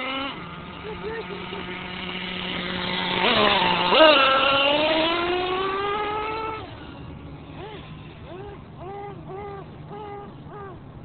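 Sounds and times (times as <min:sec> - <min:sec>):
small two-stroke engine revving: 0:00.0 - 0:10.8.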